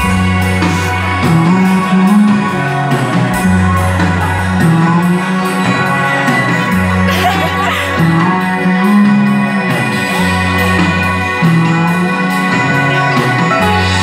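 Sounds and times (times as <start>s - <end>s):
drum kit beat: 0.0s - 14.0s
sustained bass notes: 0.0s - 14.0s.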